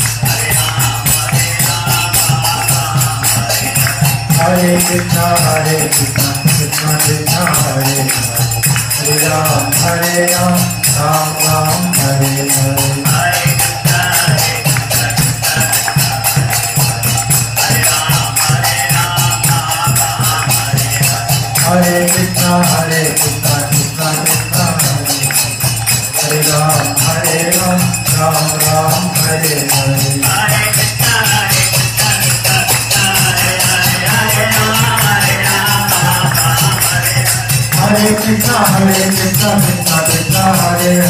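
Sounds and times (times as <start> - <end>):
hand cymbals ringing: 0.0 - 41.0
man singing devotional song: 0.0 - 41.0.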